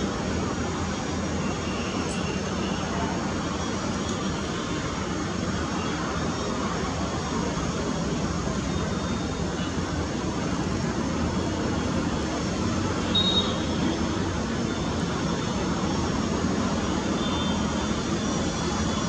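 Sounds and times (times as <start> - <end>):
rushing background roar: 0.0 - 19.0.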